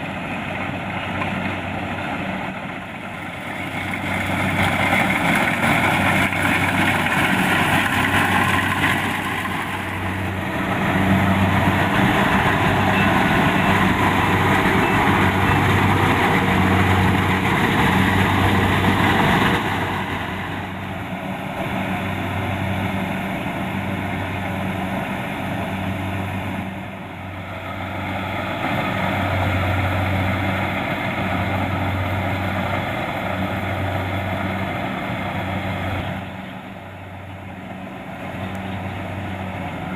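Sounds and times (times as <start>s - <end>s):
diesel engine throbbing: 0.0s - 39.9s
machinery clatter: 0.1s - 39.9s.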